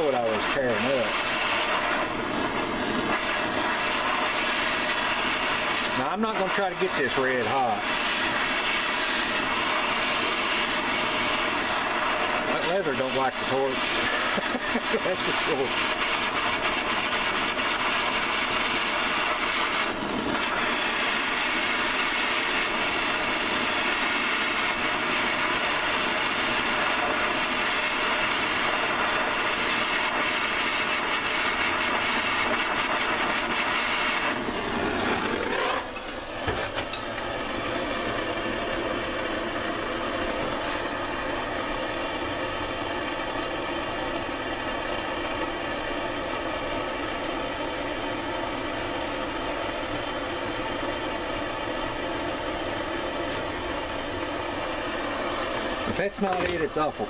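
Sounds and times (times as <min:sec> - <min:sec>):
gas torch hissing flame: 0:00.0 - 0:57.0.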